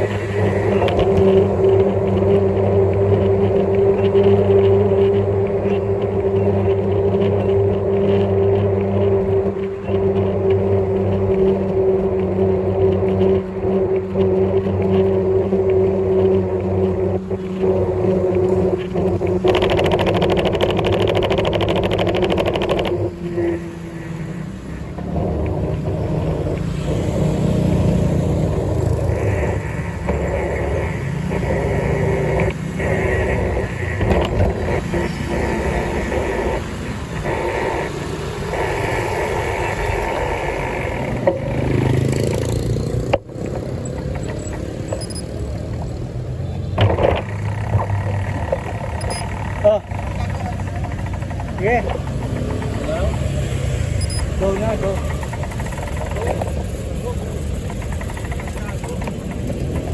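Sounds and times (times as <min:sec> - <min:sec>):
rattling buzz: 0:00.0 - 0:59.9
vehicle rumble on road: 0:00.0 - 0:59.9.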